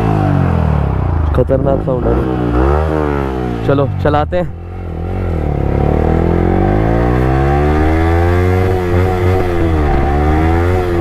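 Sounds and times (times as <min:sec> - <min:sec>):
motorcycle engine revving loud: 0:00.0 - 0:11.0.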